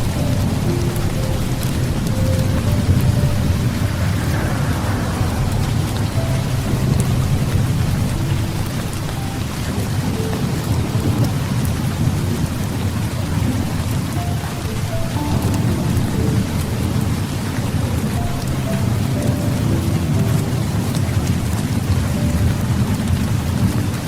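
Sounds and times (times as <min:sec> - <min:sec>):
heavy rain: 0:00.0 - 0:24.0
low rumble of thunder: 0:00.0 - 0:24.0.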